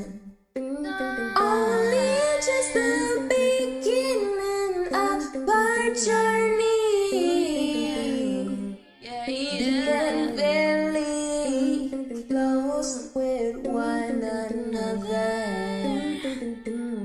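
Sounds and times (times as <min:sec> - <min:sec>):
woman singing vocal runs in harmony: 0:00.0 - 0:17.0.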